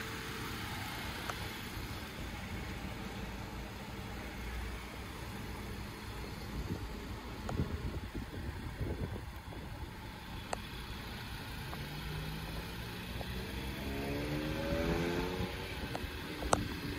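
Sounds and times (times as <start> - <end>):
low outdoor noise: 0.0 - 16.9
vehicle engine accelerating: 0.0 - 16.9.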